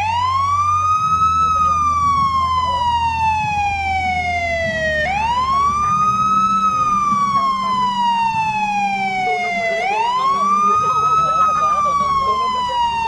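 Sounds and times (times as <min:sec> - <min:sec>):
police siren wailing: 0:00.0 - 0:13.0.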